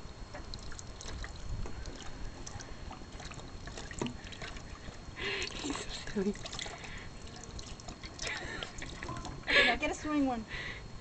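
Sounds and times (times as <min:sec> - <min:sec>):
water drips and splashes: 0:00.4 - 0:09.5.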